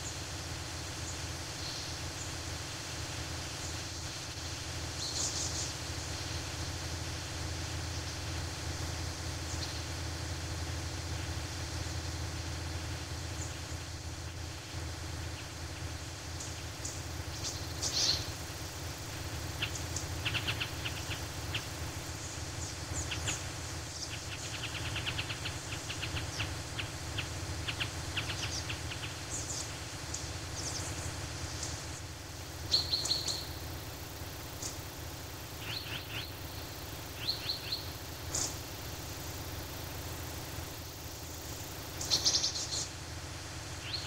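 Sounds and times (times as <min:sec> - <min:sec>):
low background rumble: 0:00.0 - 0:44.0
songbirds chirping and trilling: 0:00.0 - 0:44.0.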